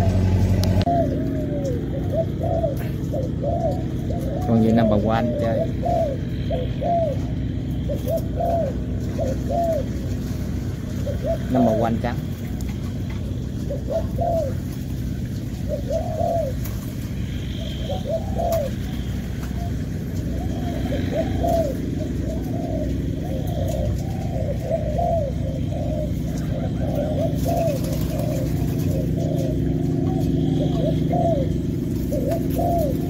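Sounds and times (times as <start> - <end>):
doves cooing: 0.0 - 33.0
low background hum: 0.0 - 33.0.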